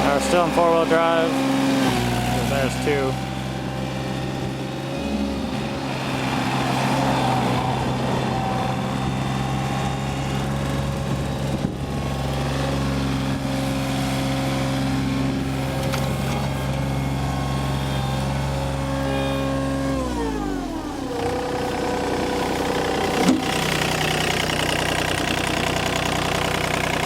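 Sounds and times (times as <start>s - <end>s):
diesel mower engine running: 0.0s - 27.0s.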